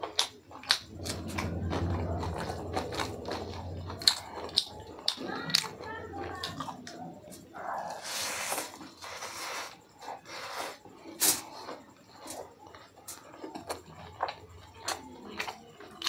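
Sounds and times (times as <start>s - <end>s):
man chewing with mouth smacks: 0.0s - 5.8s, 6.5s - 16.0s.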